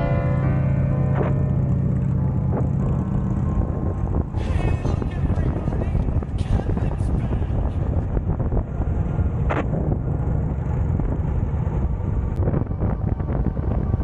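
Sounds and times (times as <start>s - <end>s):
motorcycle engine rumbling: 0.0s - 14.0s
wind noise on microphone: 0.0s - 14.0s.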